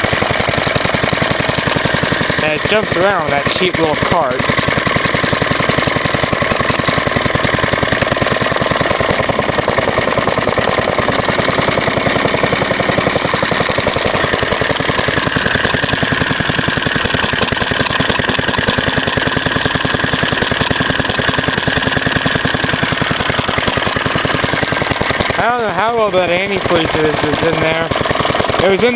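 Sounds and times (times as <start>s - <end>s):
stationary engine running: 0.0s - 28.9s.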